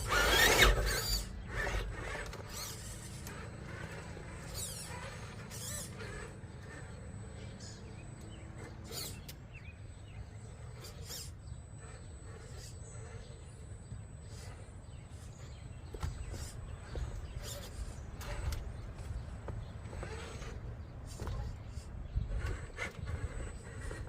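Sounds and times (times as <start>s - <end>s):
birds calling faintly: 0.0s - 24.0s.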